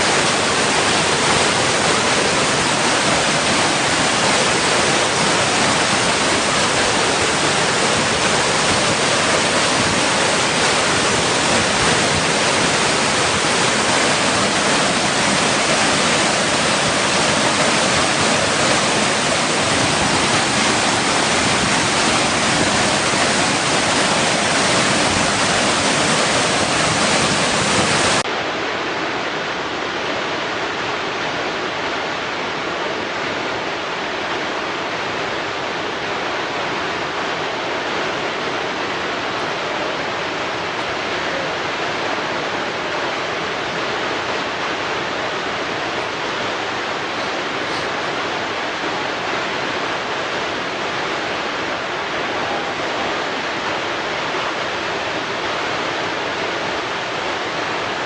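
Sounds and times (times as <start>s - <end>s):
water rushing against rocks: 0.0s - 28.3s, 30.5s - 58.0s.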